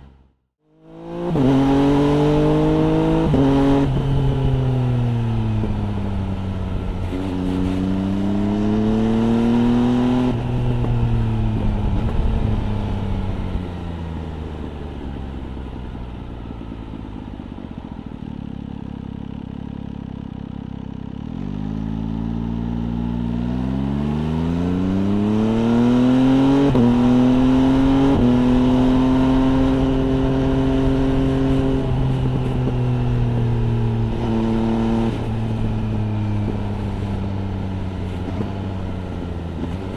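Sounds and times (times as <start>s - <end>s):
motorcycle engine shifting through gears: 0.0s - 39.9s.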